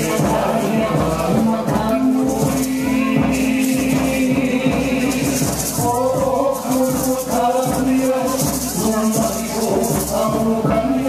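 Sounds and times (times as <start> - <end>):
shaken rattles: 0.0 - 11.0.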